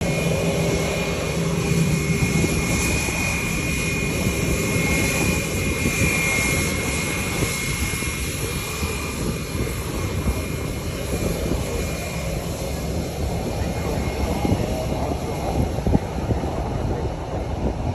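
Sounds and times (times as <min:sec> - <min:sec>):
jet engines running: 0:00.0 - 0:17.9.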